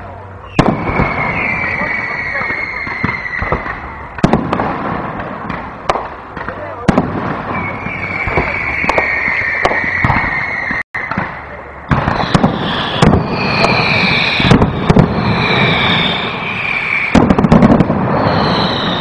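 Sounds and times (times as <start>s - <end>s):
firework crackling: 0.0s - 19.0s.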